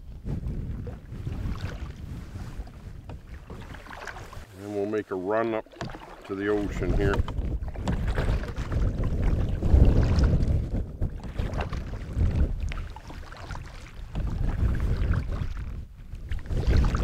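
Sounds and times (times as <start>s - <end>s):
water splashing around kayak: 0.0s - 17.0s
wind buffeting microphone: 0.0s - 17.0s.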